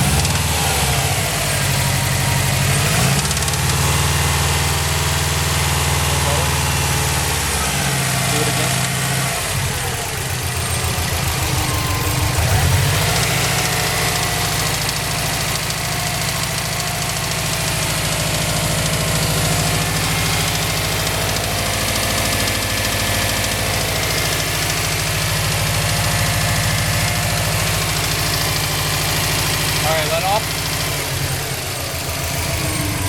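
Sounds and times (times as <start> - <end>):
car engine idling with ticking: 0.0 - 33.0.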